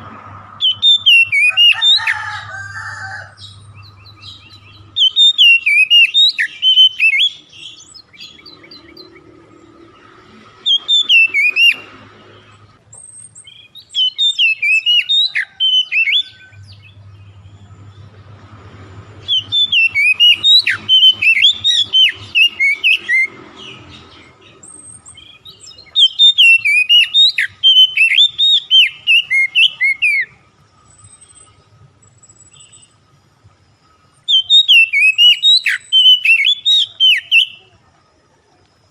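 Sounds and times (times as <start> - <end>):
songbird chirping and whistling: 0.6 - 37.8.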